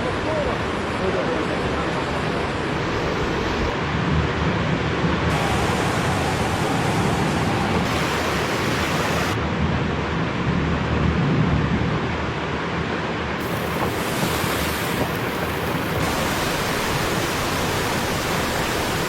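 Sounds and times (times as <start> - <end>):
rushing floodwater: 0.0 - 10.4, 12.3 - 19.0.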